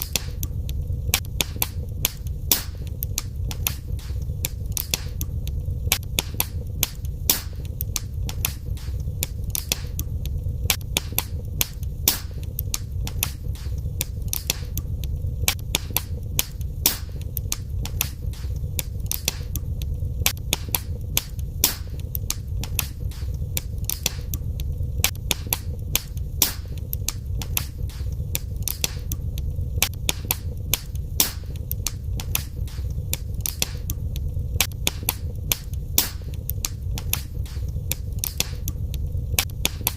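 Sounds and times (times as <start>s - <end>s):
burning logs crackling and popping: 0.0s - 39.9s
low rumble of flames: 0.0s - 39.9s.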